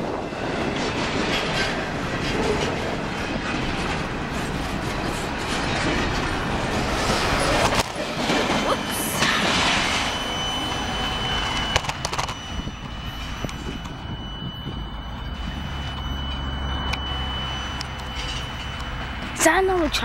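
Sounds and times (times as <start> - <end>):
freight train rolling past: 0.0 - 20.0
high-pitched squeal: 0.0 - 20.0.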